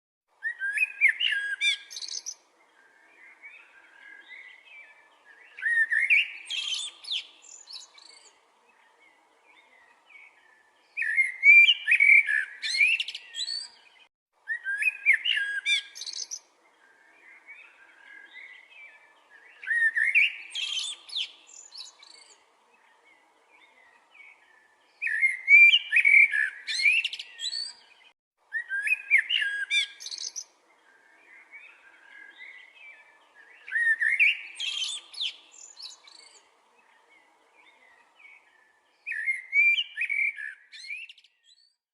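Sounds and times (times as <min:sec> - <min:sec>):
bird singing warbling phrases: 0:00.3 - 0:41.8
soft bird twittering: 0:00.4 - 0:41.8.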